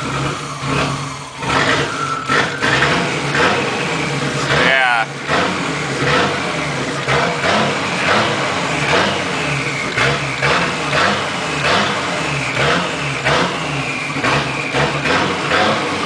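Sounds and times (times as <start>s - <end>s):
car engine revving in blips: 0.0s - 16.0s.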